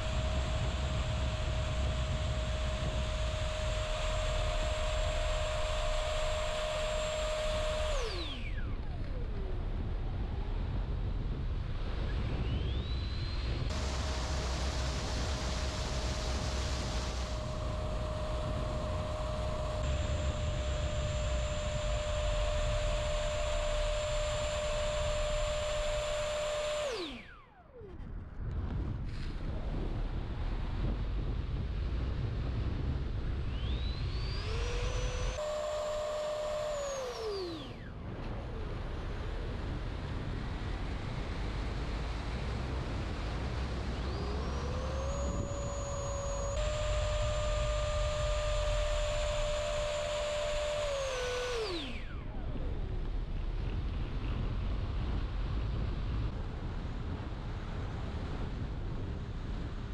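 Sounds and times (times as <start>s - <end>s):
electric fan whining: 0.0s - 59.9s.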